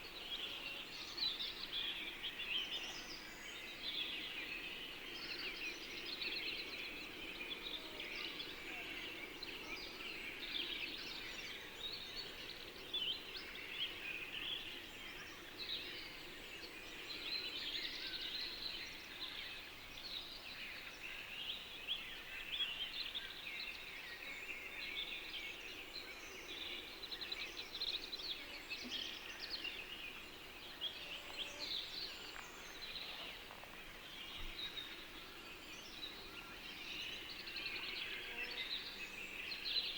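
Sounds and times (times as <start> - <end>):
faint low background noise: 0.0 - 39.9
small birds chirping and singing: 0.0 - 39.9.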